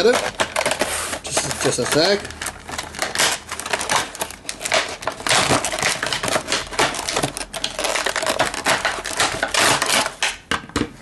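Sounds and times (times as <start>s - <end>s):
plastic packaging crackling: 0.0s - 10.6s.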